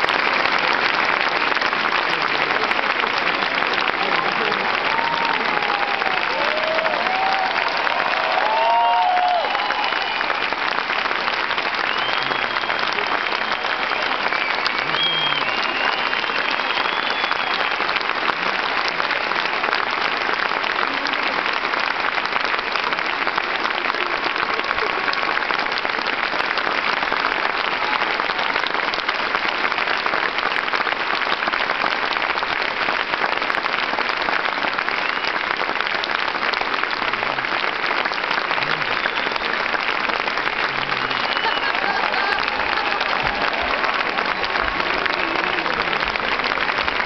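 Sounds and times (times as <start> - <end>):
audience applauding: 0.0 - 47.0.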